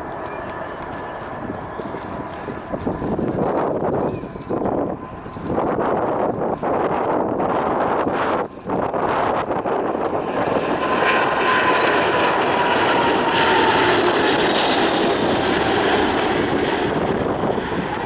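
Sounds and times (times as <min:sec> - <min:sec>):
airliner engines rushing: 0:00.0 - 0:18.0.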